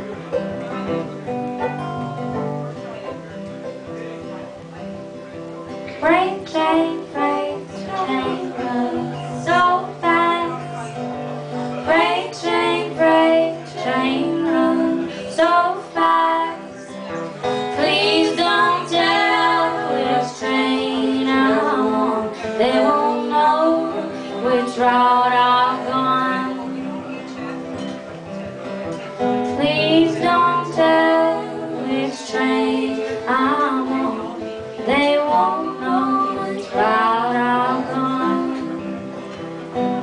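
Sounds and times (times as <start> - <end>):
acoustic guitar: 0.0 - 40.0
young woman singing folk song: 5.9 - 27.6, 29.4 - 40.0.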